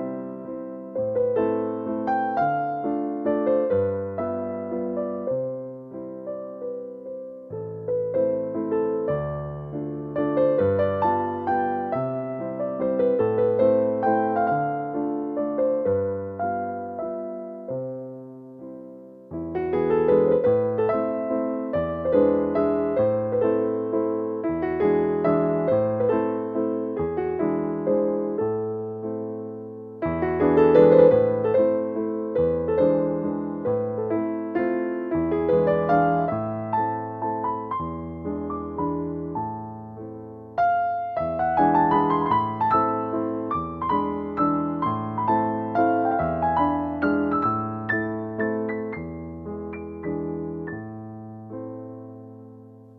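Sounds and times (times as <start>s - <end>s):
soft piano music: 0.0s - 52.9s.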